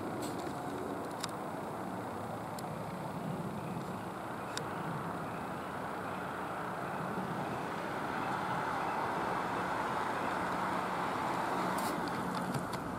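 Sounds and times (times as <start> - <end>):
distant road traffic: 0.0 - 12.9.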